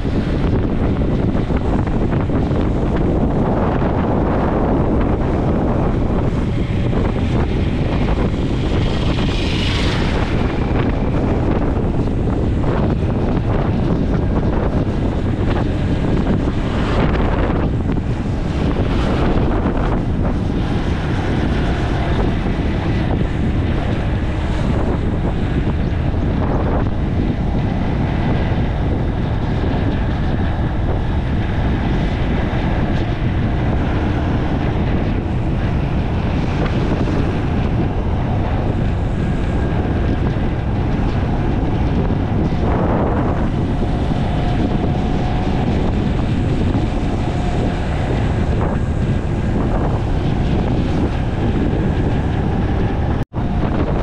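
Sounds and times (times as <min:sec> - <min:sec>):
faint engine hum: 0:00.0 - 0:54.0
wind buffeting microphone: 0:00.0 - 0:54.0.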